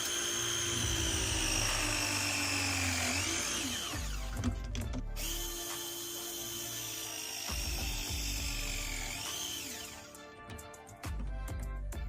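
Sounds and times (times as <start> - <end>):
pipe press tool motor whining: 0.0 - 10.1.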